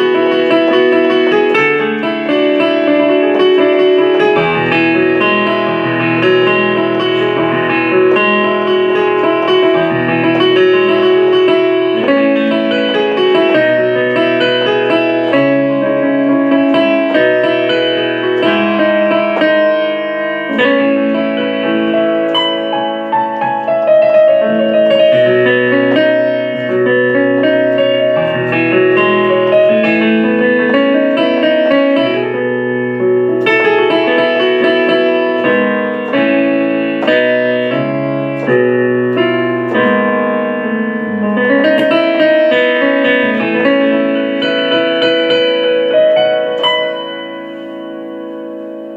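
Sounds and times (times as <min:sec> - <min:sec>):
electric piano chords: 0:00.0 - 0:48.9.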